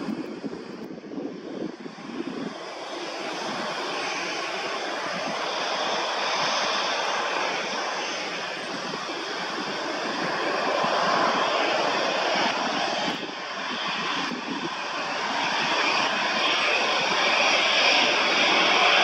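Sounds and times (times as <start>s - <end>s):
jet engines turning slowly: 0.0s - 19.0s.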